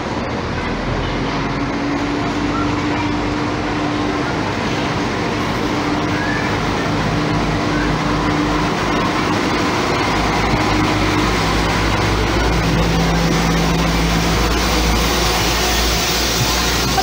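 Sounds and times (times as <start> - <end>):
diesel train engine drone: 0.0 - 17.0.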